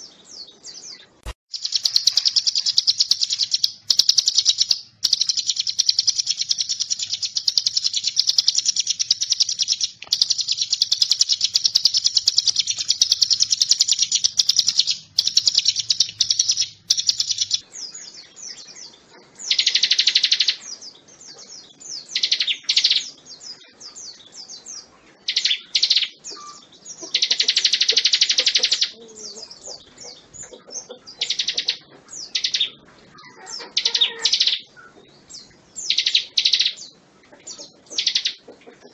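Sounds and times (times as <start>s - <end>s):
bird singing high trill: 0.0s - 38.4s.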